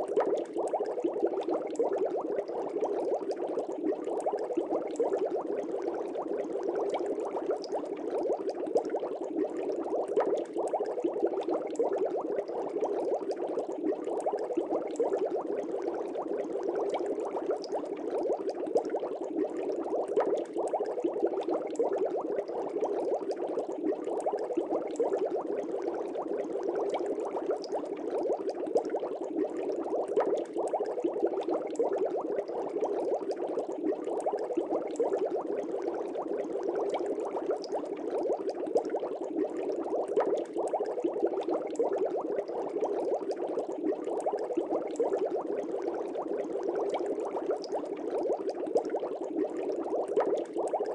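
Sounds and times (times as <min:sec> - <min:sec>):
aquarium bubbling: 0:00.0 - 0:50.9.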